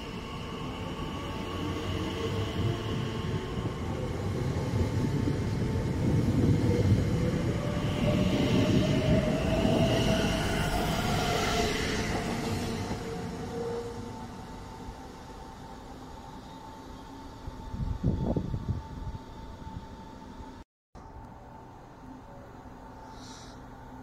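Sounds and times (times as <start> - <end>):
wheels rumbling on rails: 2.2 - 22.9.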